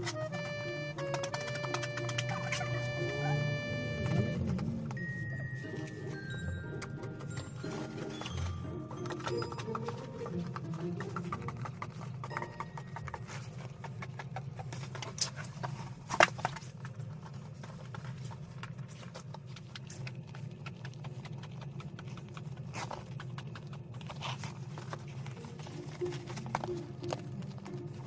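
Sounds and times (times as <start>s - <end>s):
scissors cutting vinyl mat: 0.0s - 3.2s, 3.8s - 28.0s.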